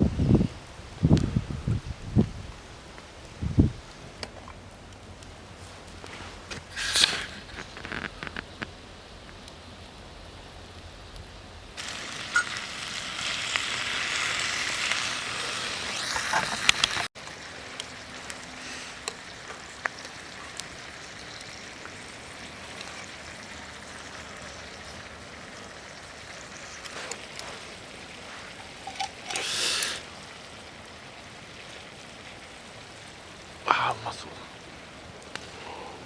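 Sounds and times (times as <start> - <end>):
food sizzling over campfire: 0.0 - 36.0
crackles and pops: 2.2 - 18.4, 19.0 - 34.4, 35.0 - 35.9.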